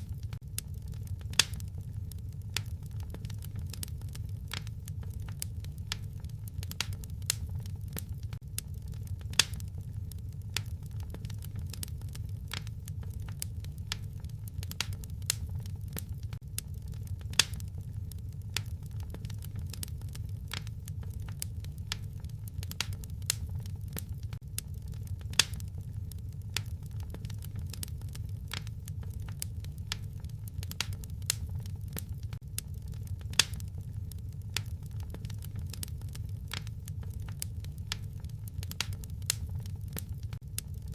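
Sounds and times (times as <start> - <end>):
loud fire pops: 0.0 - 40.9
low rumble of flames: 0.0 - 40.9
wood fire crackling: 0.0 - 40.9.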